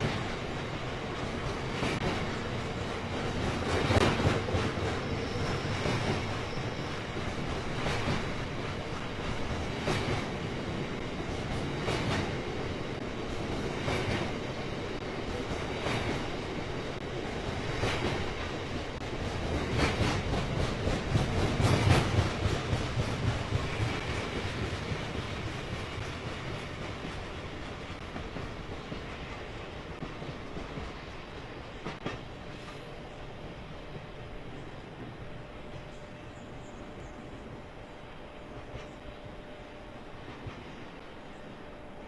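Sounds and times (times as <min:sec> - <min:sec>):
train wagons rumbling past: 0:00.0 - 0:42.0.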